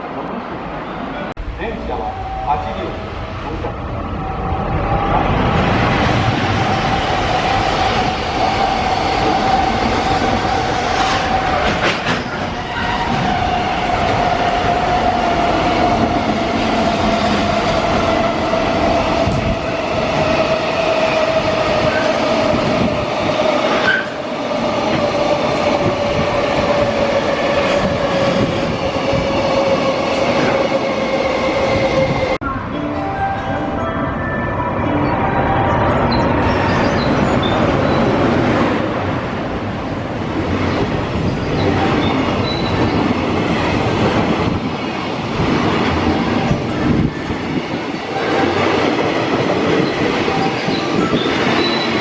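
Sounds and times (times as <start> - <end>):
train wheels rumbling on rails: 1.4 - 32.4, 36.0 - 52.0.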